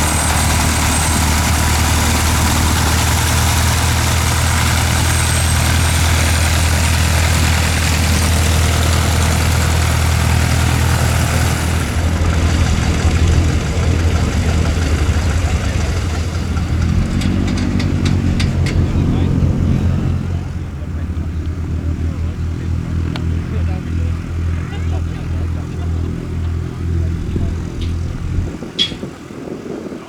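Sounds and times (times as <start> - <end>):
light aircraft engine drone: 0.0 - 30.0.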